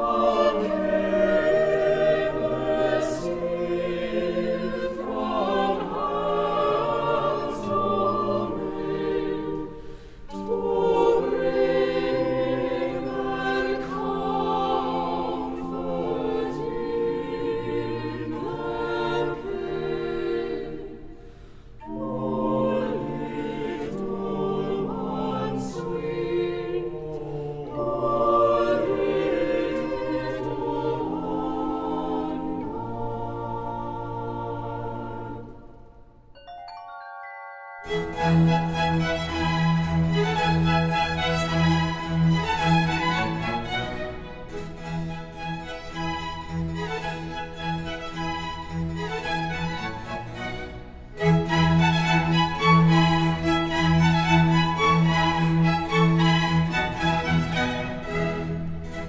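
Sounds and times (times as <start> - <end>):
choir singing: 0.0 - 36.4, 37.6 - 59.0
orchestral accompaniment: 0.0 - 59.0.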